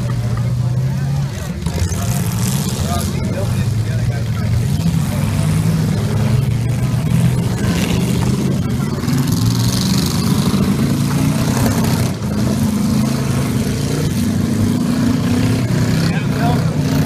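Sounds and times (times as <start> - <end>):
car engines revving under load: 0.0 - 17.0.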